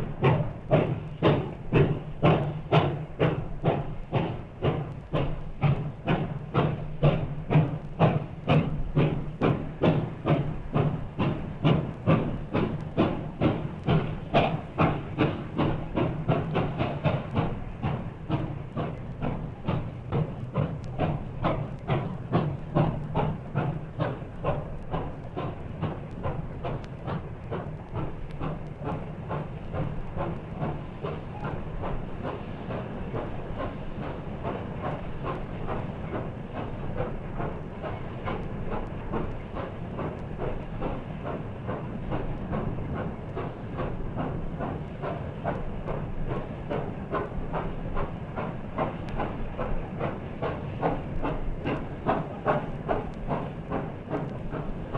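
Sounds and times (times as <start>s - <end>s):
steam locomotive chuffing: 0.0s - 54.9s.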